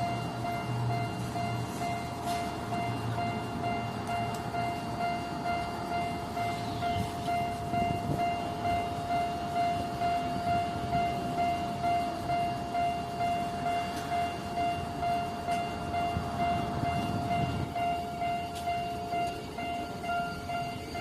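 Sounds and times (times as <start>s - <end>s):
railroad crossing bell ringing: 0.0s - 21.0s
train rumbling: 0.0s - 21.0s.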